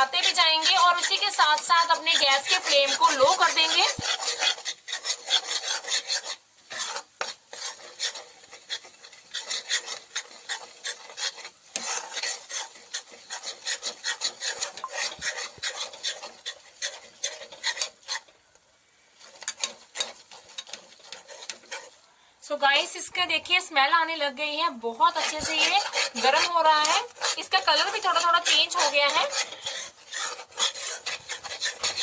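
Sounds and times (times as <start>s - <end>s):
spatula scraping a pan: 0.0s - 22.1s, 24.8s - 32.0s.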